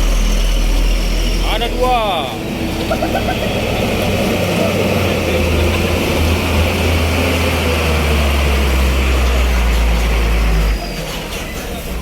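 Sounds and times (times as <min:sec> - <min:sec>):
truck diesel engine under load: 0:00.0 - 0:12.0.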